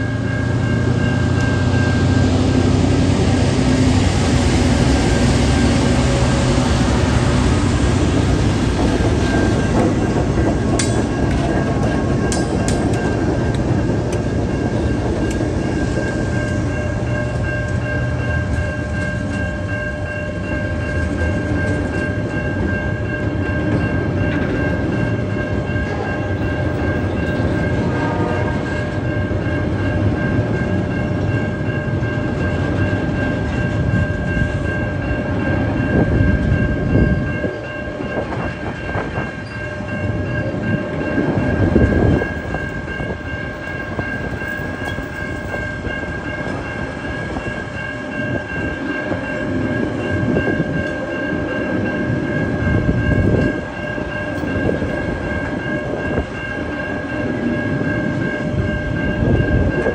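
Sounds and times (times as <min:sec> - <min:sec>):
steady high-pitched tone: 0:00.0 - 0:59.9
train wheels rumbling on rail: 0:00.0 - 0:59.9.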